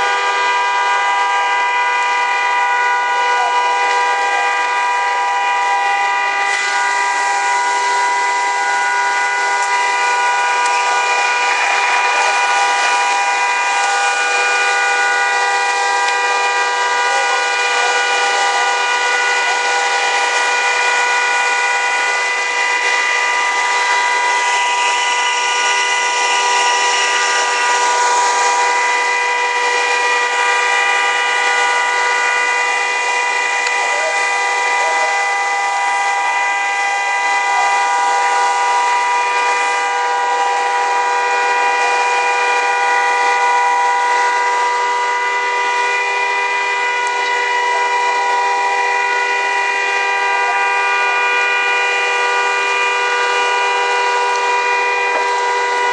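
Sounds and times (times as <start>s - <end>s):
fire engine pumps droning: 0.0s - 55.9s
fire burning: 1.6s - 51.5s.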